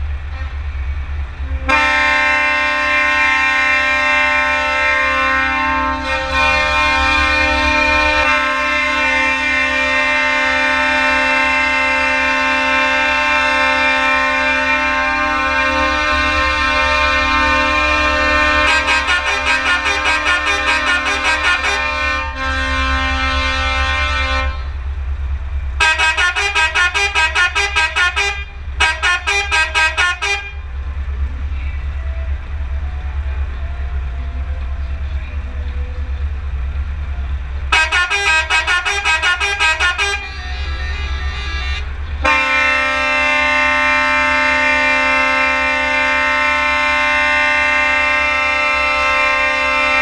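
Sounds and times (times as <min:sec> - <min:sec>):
idling truck diesel engine: 0:00.0 - 0:50.0
truck air horns blasting: 0:01.4 - 0:24.9, 0:25.8 - 0:30.8, 0:37.6 - 0:50.0.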